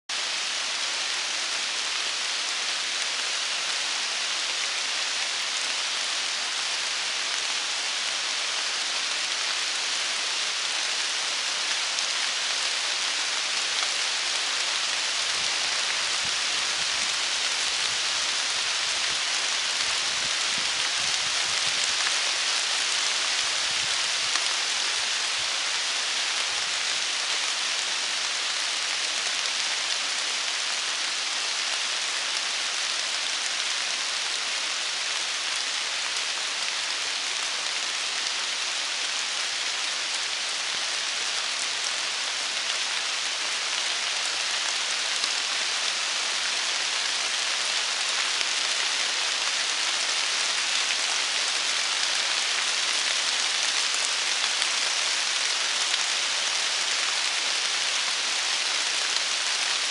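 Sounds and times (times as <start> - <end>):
rain falling on trees: 0.1 - 59.9.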